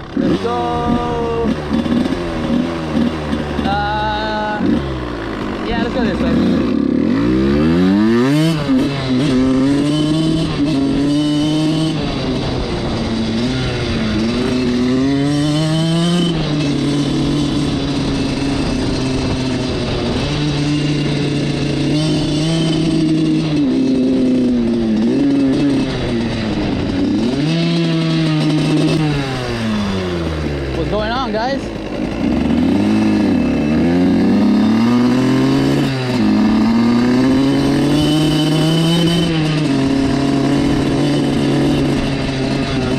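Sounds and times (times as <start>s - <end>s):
two-stroke engine revving: 0.0s - 42.9s.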